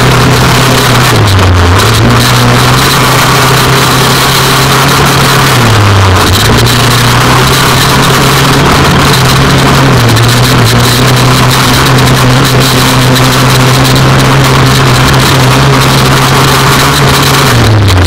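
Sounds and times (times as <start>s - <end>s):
engine running at high revs: 0.0s - 18.0s.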